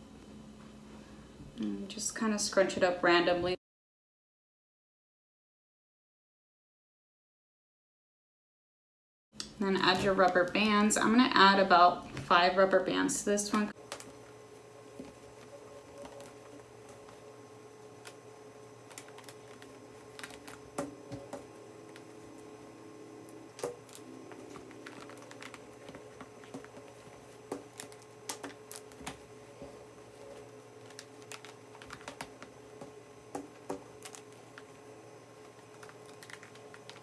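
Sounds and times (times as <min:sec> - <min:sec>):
faint steady hum: 0:00.0 - 0:03.6, 0:09.4 - 0:37.0.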